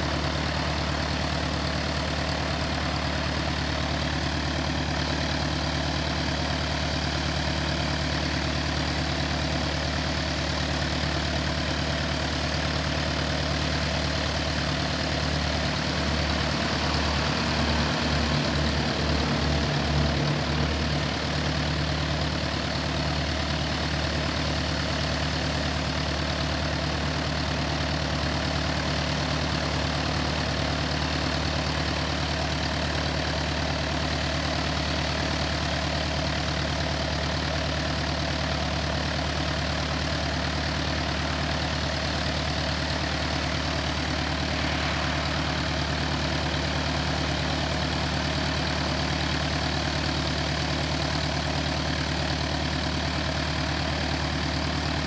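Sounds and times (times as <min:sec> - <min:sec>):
aircraft piston engine idling: 0:00.0 - 0:55.0.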